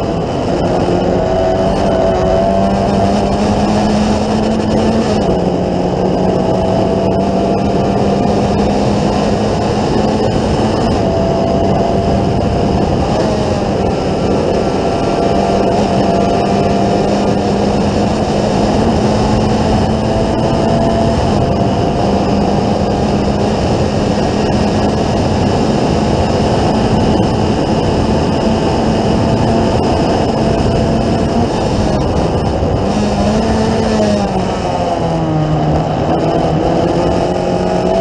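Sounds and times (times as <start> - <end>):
race car engine at high revs: 0.0 - 38.0
wind and road noise: 0.0 - 38.0.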